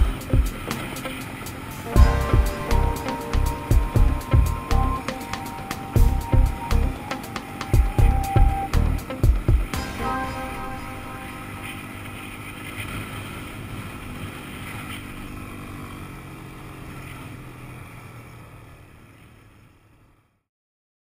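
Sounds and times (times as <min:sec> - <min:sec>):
quad bike engine running: 0:00.0 - 0:20.4.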